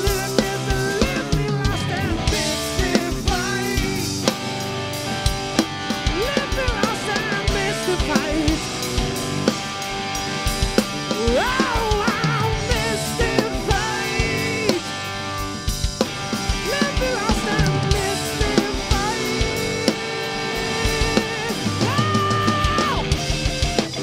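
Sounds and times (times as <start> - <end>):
bass: 0.0 - 24.0
drum kit beat: 0.0 - 24.0
lead guitar melody with bent notes: 0.0 - 24.0.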